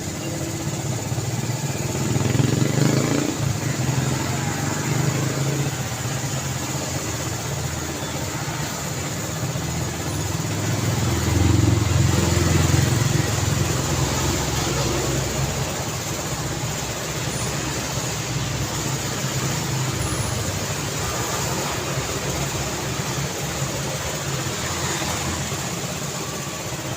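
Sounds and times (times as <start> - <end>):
road traffic passing: 0.0 - 26.9.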